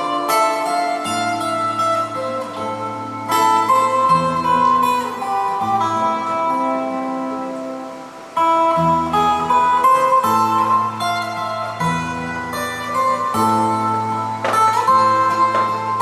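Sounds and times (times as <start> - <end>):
instrumental guitar music: 0.0 - 16.0.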